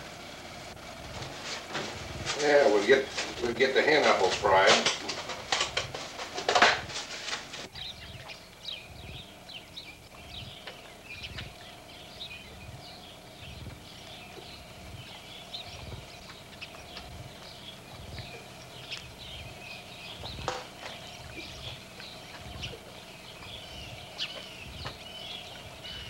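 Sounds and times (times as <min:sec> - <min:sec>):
faint steady hum: 0:00.0 - 0:26.0
small birds chirping: 0:00.0 - 0:26.0.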